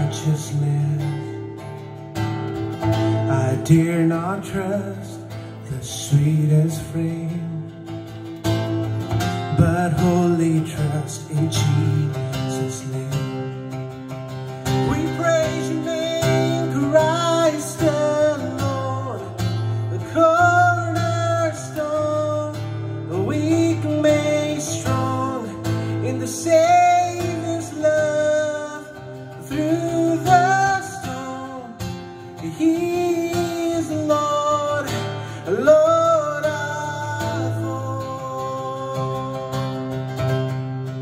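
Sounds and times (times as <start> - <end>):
man singing: 0.0 - 1.8, 2.6 - 8.3, 8.9 - 41.0
strummed acoustic guitar: 0.0 - 41.0.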